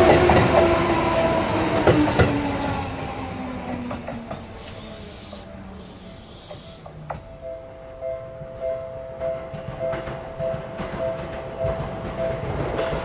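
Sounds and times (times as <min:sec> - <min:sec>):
wheel clacks over rail joints: 0:00.0 - 0:07.5, 0:09.5 - 0:13.0
electric train passing: 0:00.0 - 0:13.0.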